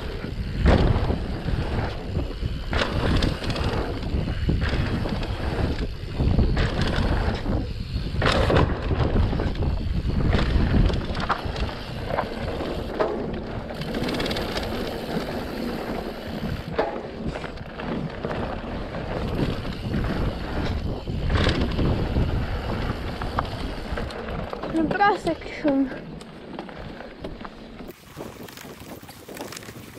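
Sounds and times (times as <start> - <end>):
bike knocks and rattles: 0.0 - 29.9
tyres rumbling on dirt: 0.0 - 29.9
wind buffeting microphone: 0.0 - 29.9.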